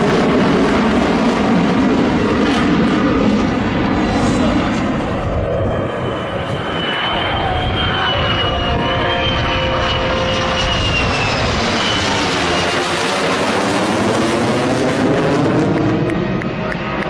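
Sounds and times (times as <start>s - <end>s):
fighter jet engine whine: 0.0s - 17.0s.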